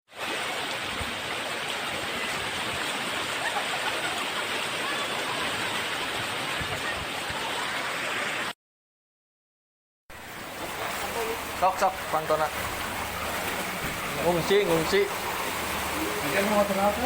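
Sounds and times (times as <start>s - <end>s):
floodwater rushing: 0.1s - 8.5s, 10.1s - 17.0s.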